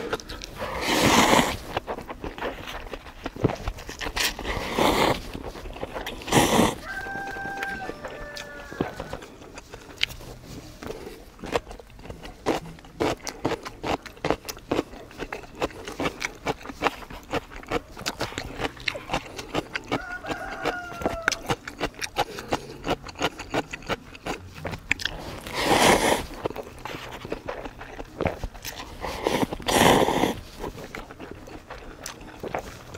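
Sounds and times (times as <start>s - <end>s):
wet chewing: 0.0s - 32.9s.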